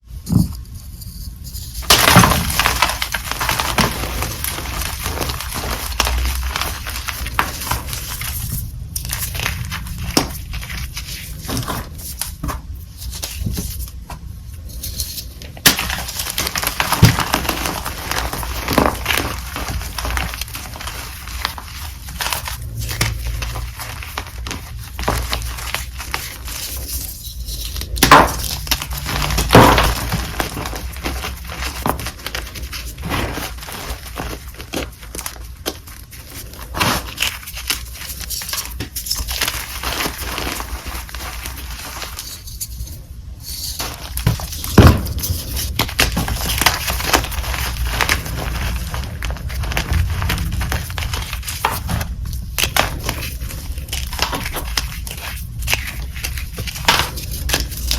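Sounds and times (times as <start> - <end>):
chalk crunching and crackling: 0.7 - 57.9.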